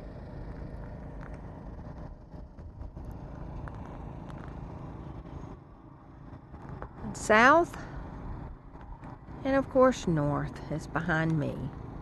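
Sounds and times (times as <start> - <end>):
wind buffeting microphone: 0.1 - 10.4.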